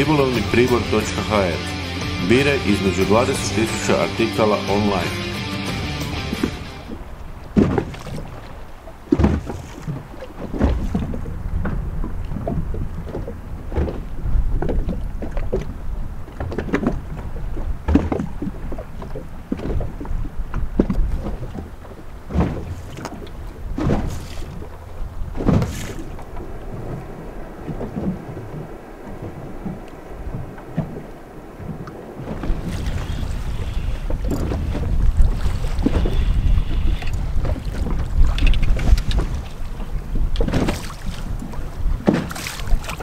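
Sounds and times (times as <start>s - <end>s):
water against boat hull: 0.0s - 43.0s
knocks and splashes: 3.2s - 43.0s
wind rumbling on microphone: 6.2s - 43.0s.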